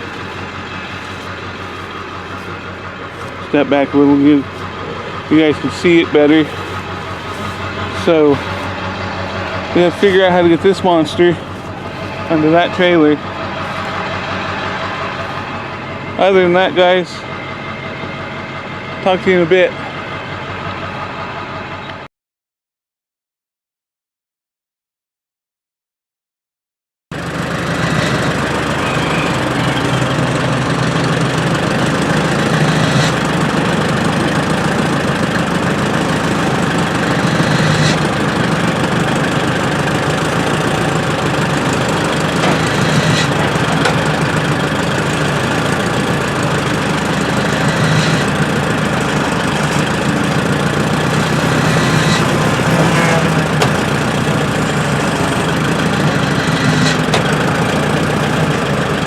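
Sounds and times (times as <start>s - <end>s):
engine running steadily: 0.0s - 22.1s, 27.1s - 59.0s.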